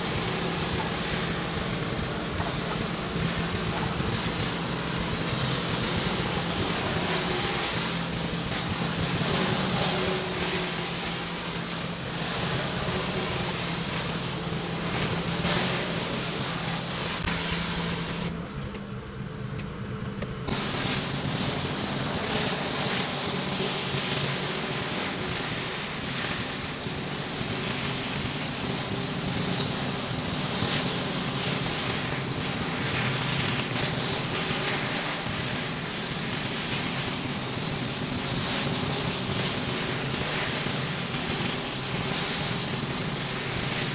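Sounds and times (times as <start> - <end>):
water spray hissing on concrete: 0.0 - 18.3, 20.5 - 43.9
pressure washer engine hum: 0.0 - 43.9.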